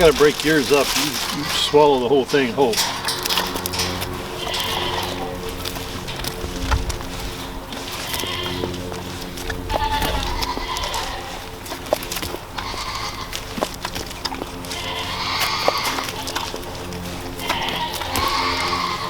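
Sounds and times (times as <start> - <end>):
goats bleating: 0.0 - 19.0.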